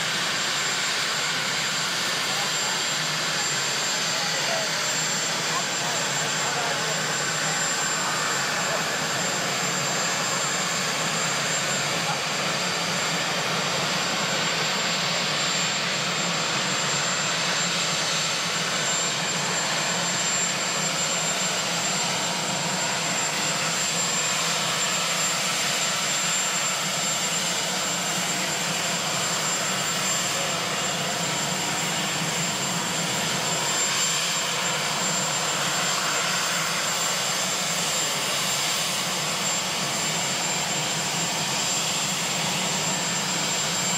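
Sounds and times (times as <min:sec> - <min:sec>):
helicopter turbine engines running: 0:00.0 - 0:43.9.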